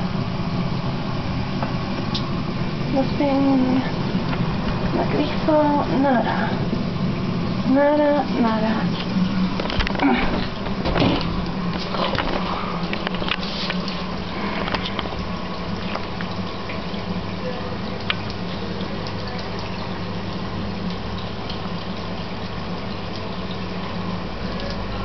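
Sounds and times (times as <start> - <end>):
low steady hum: 0.0 - 25.0
water gushing from washing machine: 0.0 - 25.0.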